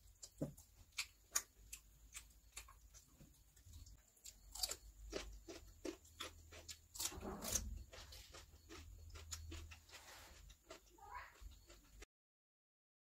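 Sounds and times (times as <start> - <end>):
crunching and chewing cucumber: 0.0 - 12.0.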